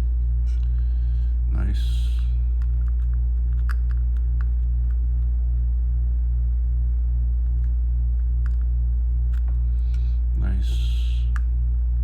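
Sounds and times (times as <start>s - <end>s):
low electrical hum pulsing: 0.0s - 12.0s.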